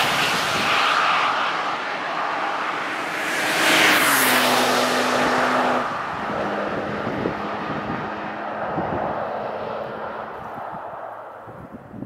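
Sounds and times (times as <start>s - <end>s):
car engine running hard: 0.0s - 11.7s.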